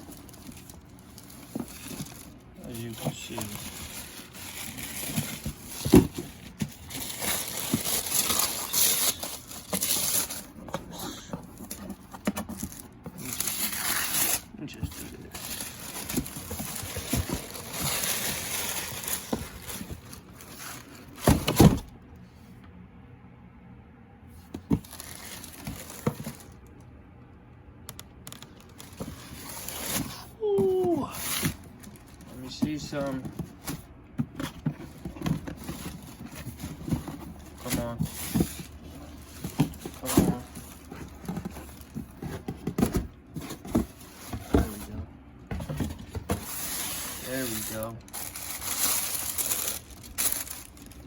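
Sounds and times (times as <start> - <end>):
packaging rustling: 0.0 - 21.9, 24.5 - 26.8, 28.2 - 51.0.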